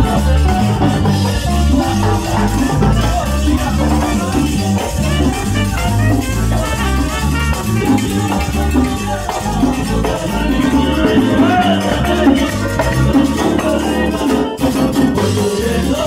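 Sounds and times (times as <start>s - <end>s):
trumpets: 0.0s - 14.9s
bass line: 0.0s - 16.0s.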